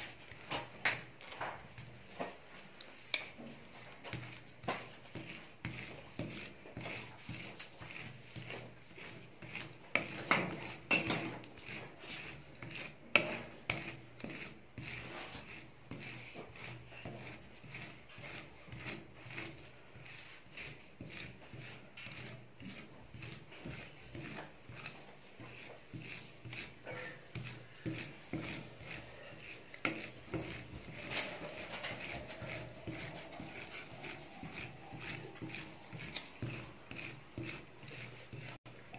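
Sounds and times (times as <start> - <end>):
metal spatula scraping pan: 3.1 - 38.9.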